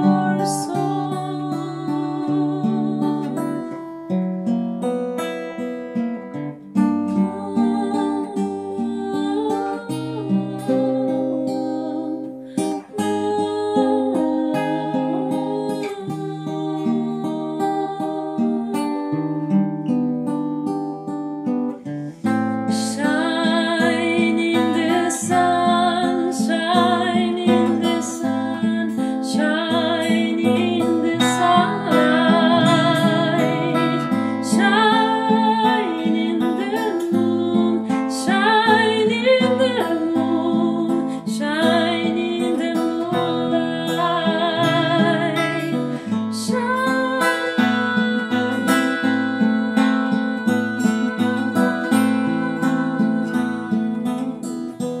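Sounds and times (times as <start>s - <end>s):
woman singing: 0.0s - 4.2s, 6.5s - 19.6s, 22.2s - 55.0s
acoustic guitar playing: 0.0s - 55.0s.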